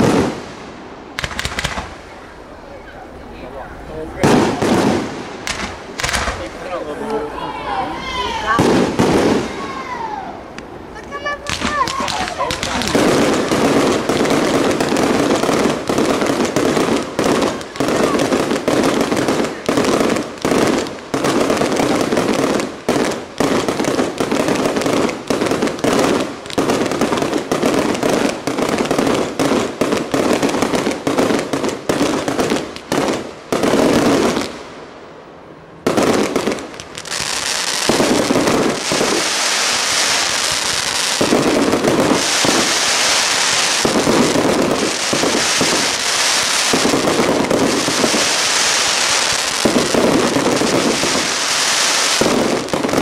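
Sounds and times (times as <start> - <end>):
fireworks crackling: 0.0 - 53.0.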